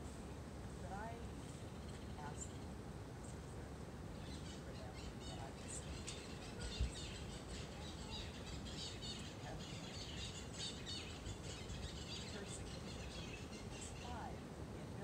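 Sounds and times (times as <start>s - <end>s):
low outdoor background rush: 0.0s - 15.0s
small birds chirping: 0.9s - 3.5s, 4.1s - 14.4s.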